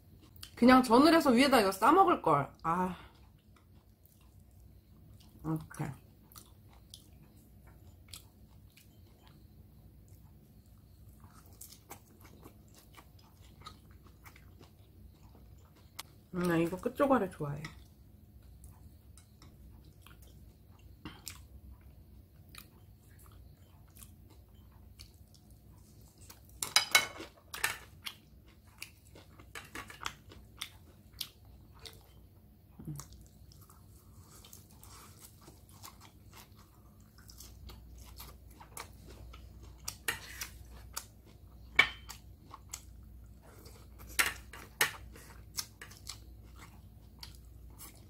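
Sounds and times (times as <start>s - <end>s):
chewing and crunching crispy pancake: 0.0s - 0.6s, 2.5s - 16.9s, 17.6s - 48.0s.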